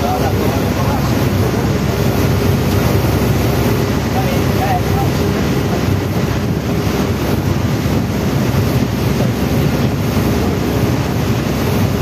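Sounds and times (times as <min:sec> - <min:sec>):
water rushing past hull: 0:00.0 - 0:12.0
wind buffeting microphone: 0:00.0 - 0:12.0.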